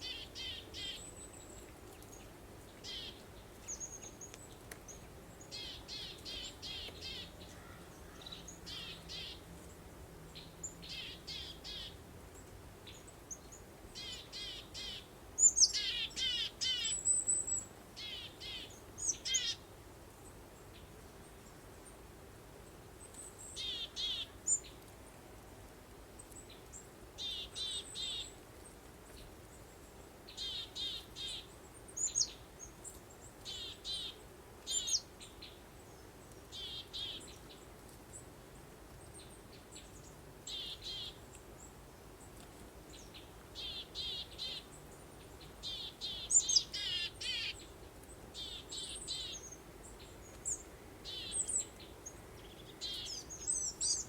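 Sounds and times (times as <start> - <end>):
faint background noise: 0.0 - 54.0
songbirds chirping: 0.0 - 54.0.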